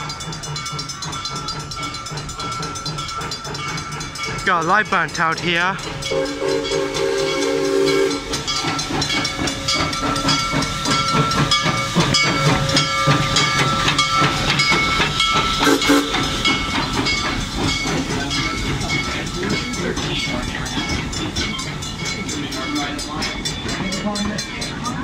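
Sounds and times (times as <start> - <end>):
steam hissing: 0.0 - 25.0
steam locomotive passing: 0.0 - 25.0
train cars rolling on rails: 0.0 - 25.0.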